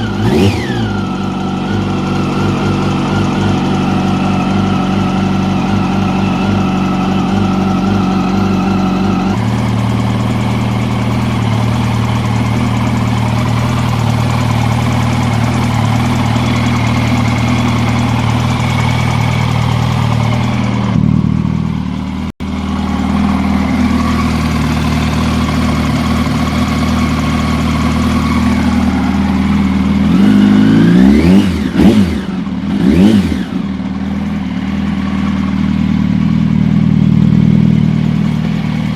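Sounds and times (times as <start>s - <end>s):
engine ticking: 0.0s - 38.9s
motorcycle engine idling: 0.0s - 38.9s.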